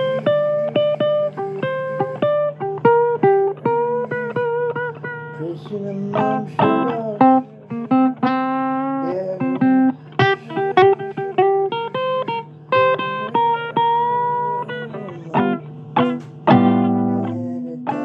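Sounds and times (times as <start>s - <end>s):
blues guitar: 0.0s - 18.0s
steady low hum: 0.0s - 18.0s.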